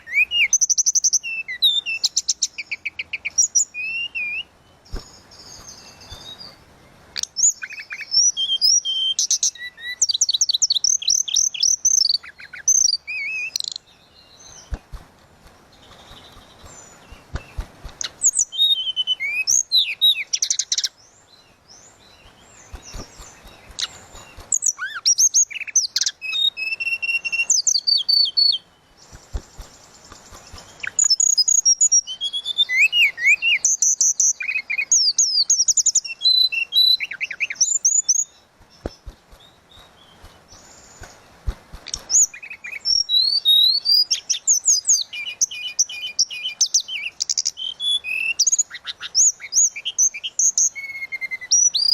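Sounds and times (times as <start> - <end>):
songbird whistling and trilling: 0.0 - 6.6, 7.2 - 14.8, 15.8 - 21.0, 21.7 - 29.7, 30.4 - 41.2, 41.8 - 51.9.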